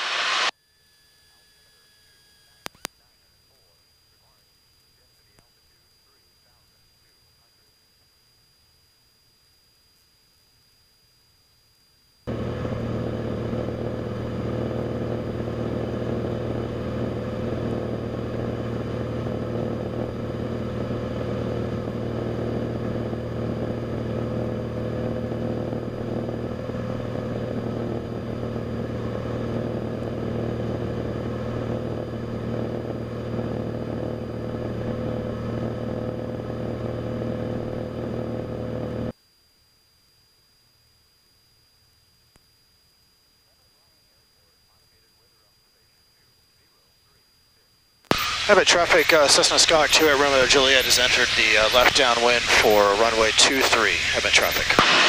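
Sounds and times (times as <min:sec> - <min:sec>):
light aircraft engine drone: 0:00.0 - 0:09.6, 0:12.3 - 0:39.2, 0:42.9 - 0:55.0.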